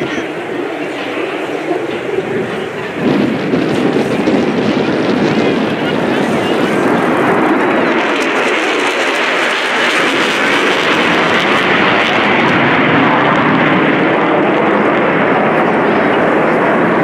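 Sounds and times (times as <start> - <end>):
jet engine passing overhead: 0.0 - 17.0.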